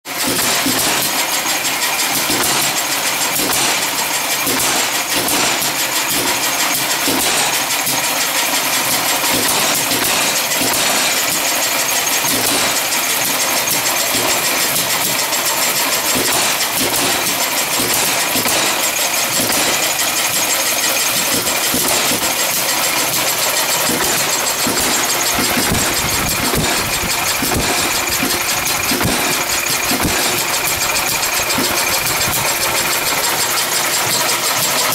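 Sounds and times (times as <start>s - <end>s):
gas engine clattering: 0.1s - 34.9s.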